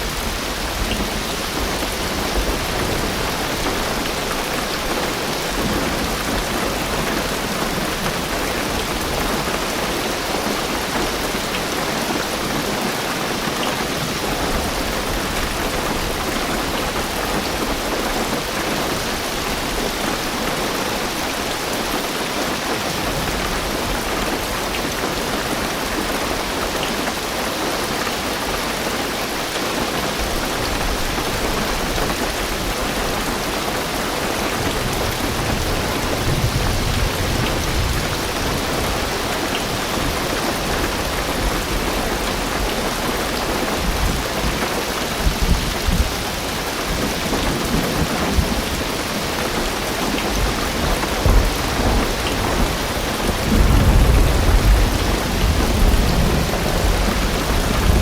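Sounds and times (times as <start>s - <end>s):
heavy rain on car roof: 0.0s - 58.0s.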